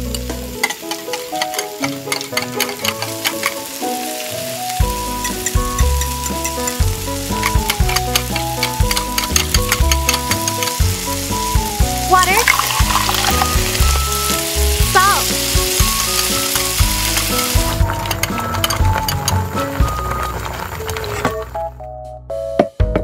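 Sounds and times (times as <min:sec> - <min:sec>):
vegetables sizzling in oil: 0:00.0 - 0:21.6
background music: 0:00.0 - 0:23.0.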